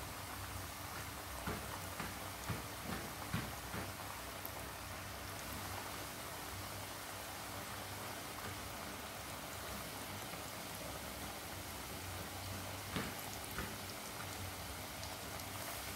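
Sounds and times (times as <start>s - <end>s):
chicken deep-frying in oil: 0.0s - 15.9s.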